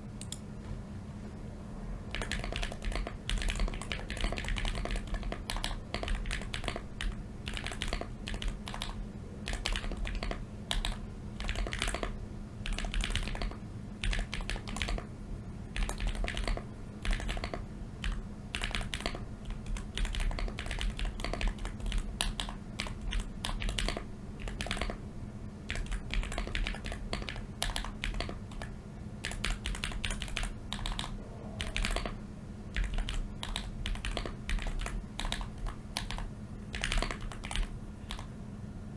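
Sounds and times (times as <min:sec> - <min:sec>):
keyboard keystroke clacks: 0:02.1 - 0:15.1, 0:15.8 - 0:25.0, 0:25.7 - 0:32.2, 0:32.8 - 0:38.3.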